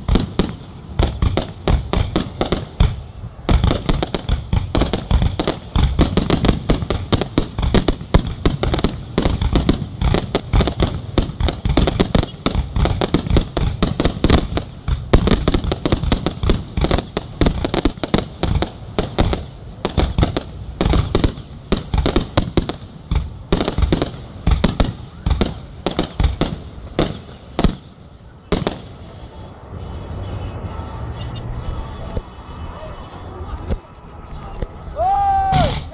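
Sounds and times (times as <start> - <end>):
fireworks bursting: 0.0 - 30.9, 31.5 - 35.9.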